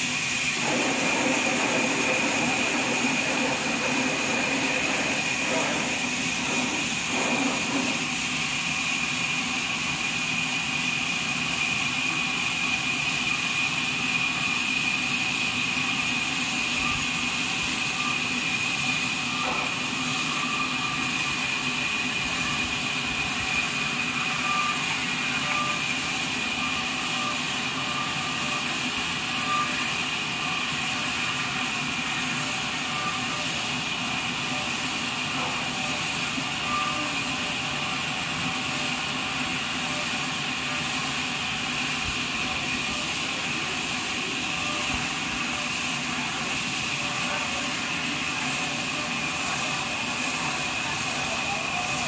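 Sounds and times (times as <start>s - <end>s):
band saw humming and whining: 0.0s - 52.0s.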